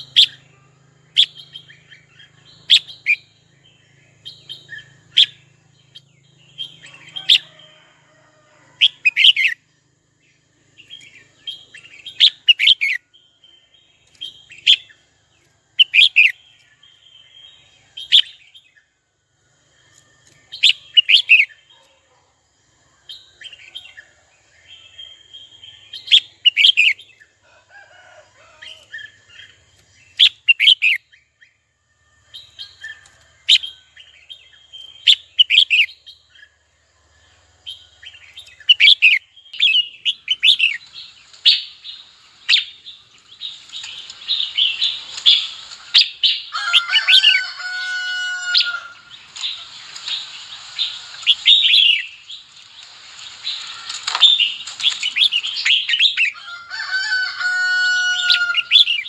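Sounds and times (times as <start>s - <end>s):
bird chirping: 0.0s - 7.8s, 8.8s - 18.9s, 24.7s - 27.3s, 28.7s - 31.6s, 32.2s - 59.0s.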